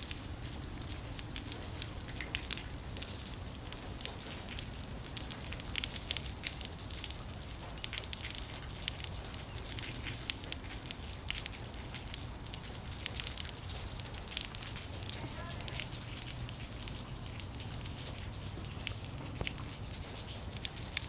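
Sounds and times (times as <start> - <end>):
rain and drips pattering: 0.0 - 21.0
steady low rumble: 0.0 - 21.0.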